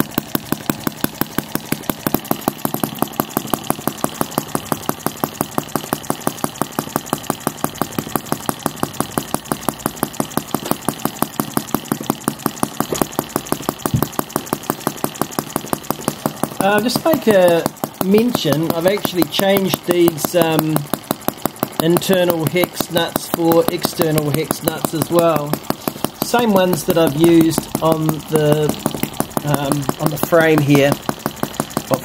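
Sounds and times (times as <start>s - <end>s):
model engine popping: 0.0s - 32.0s.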